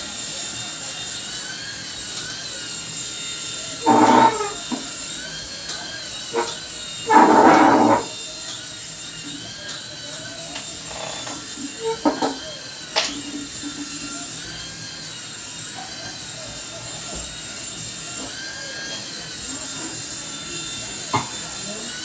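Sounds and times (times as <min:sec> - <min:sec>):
toy helicopter motors whining: 0:00.0 - 0:22.0.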